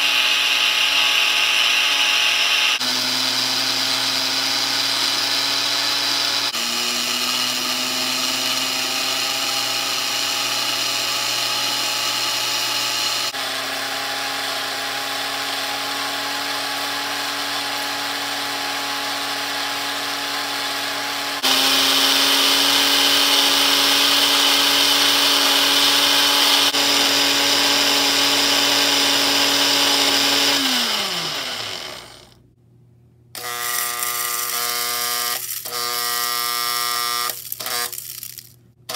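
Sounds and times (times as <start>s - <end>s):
electric motor whirring hum: 0.0s - 32.4s, 33.4s - 38.2s.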